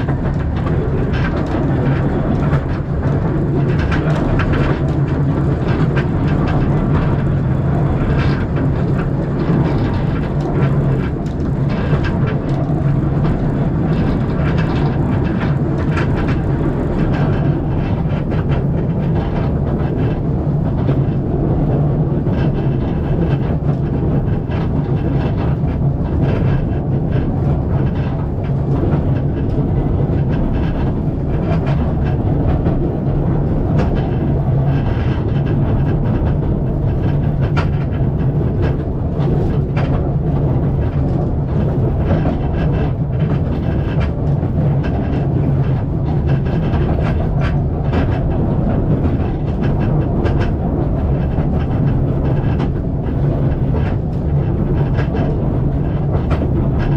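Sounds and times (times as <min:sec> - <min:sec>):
train carriage rumble: 0:00.0 - 0:56.9
wheels clicking on rail: 0:00.0 - 0:56.9.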